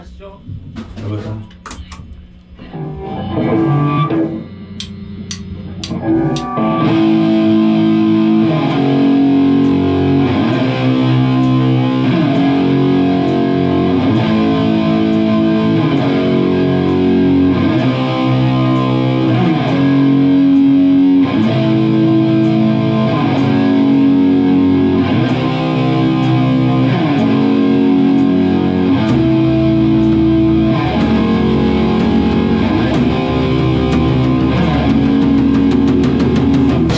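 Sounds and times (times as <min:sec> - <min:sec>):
rock music with distorted guitar: 0:02.5 - 0:36.9.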